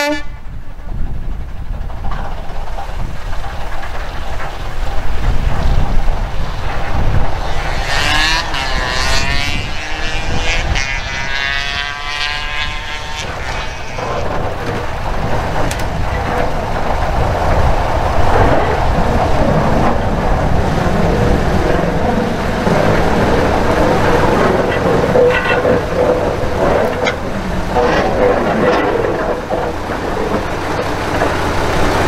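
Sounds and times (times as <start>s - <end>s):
diesel locomotive rumbling: 0.0s - 32.0s.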